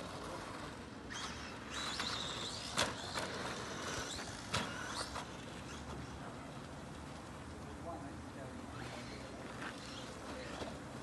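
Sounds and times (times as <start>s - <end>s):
remote control car whine: 0.0s - 7.4s, 8.6s - 11.0s.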